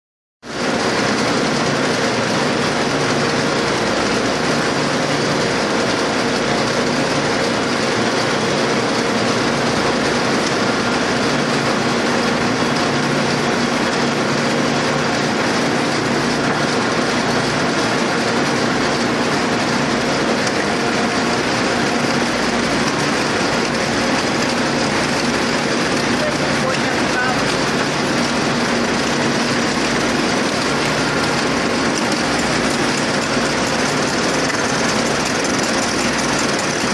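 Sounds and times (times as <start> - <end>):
winding machines running: 0.5 - 36.9.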